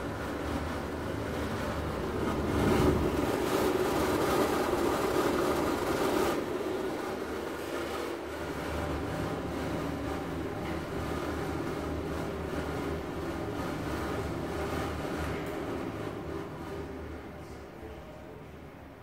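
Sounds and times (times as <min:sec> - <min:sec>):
exhaust fan motor hum: 0:00.0 - 0:19.0.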